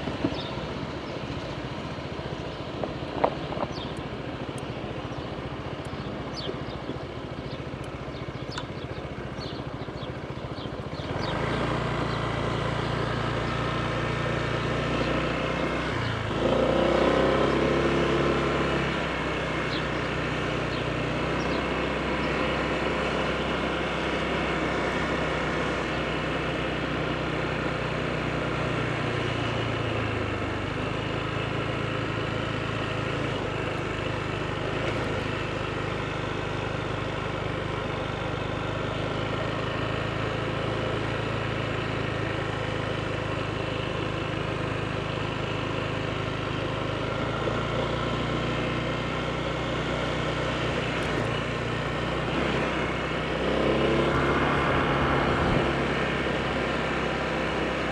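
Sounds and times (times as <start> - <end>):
road noise: 0.0 - 57.9
scooter engine running: 0.0 - 57.9
wind: 0.0 - 57.9.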